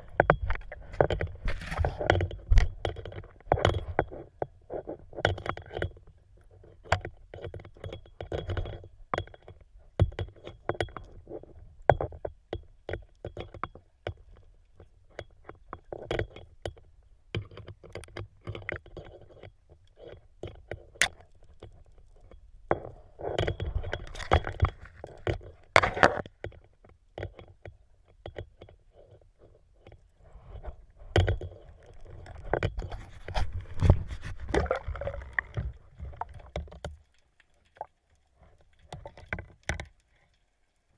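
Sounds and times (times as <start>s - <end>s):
sharp underwater clicks and knocks: 0.0s - 40.9s.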